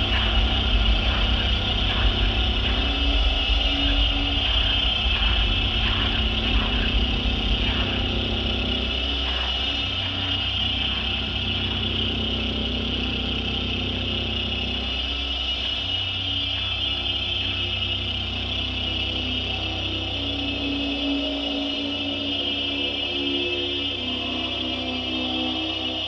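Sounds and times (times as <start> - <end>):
dark electronic drone: 0.0 - 26.0.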